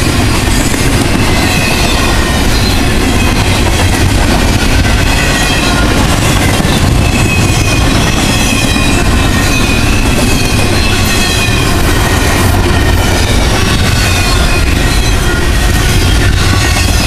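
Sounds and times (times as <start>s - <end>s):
high wheel squeal: 0.0s - 17.0s
steel wheels rumbling on rail: 0.0s - 17.0s.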